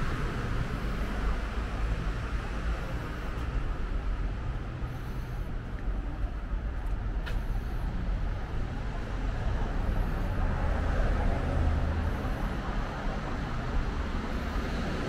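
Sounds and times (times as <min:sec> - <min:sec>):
vehicles passing: 0:00.0 - 0:15.0.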